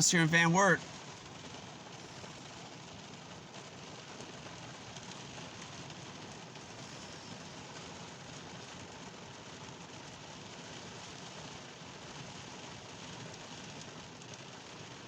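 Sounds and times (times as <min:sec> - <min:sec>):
steady rain on ground: 0:00.0 - 0:15.0.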